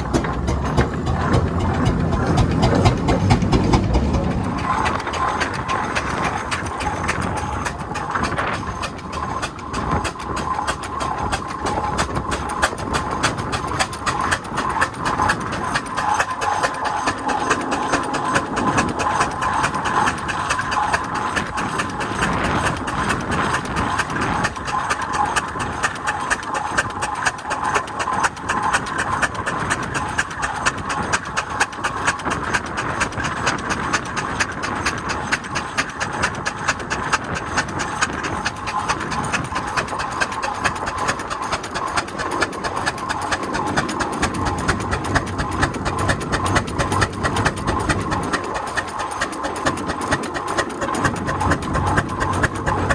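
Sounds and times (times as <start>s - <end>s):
steam engine clattering beats: 0.0s - 52.9s.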